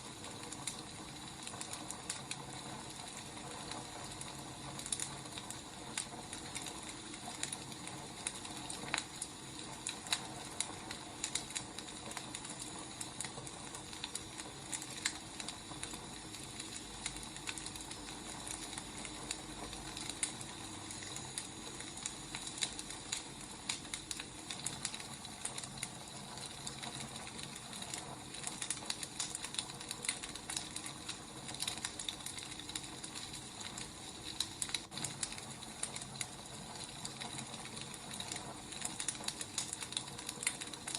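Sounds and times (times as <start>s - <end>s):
firewood crackling and popping: 0.0s - 40.9s.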